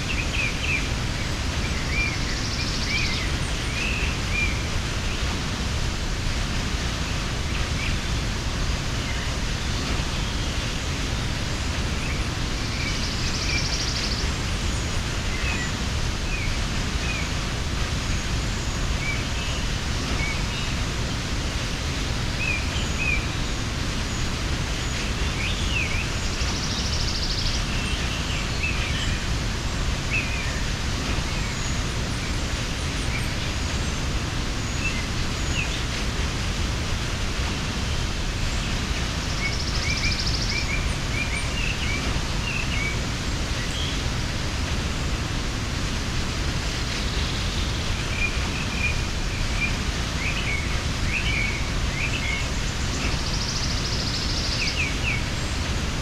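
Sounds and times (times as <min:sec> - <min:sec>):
small birds chirping: 0:00.0 - 0:56.0
waterfall rushing: 0:00.0 - 0:56.0.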